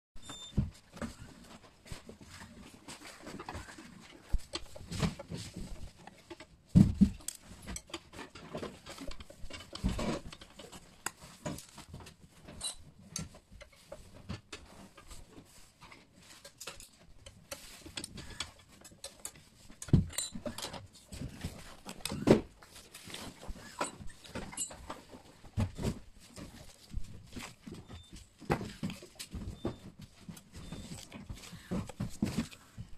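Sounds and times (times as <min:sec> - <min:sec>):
metal and plastic parts rattling: 0:00.3 - 0:32.9.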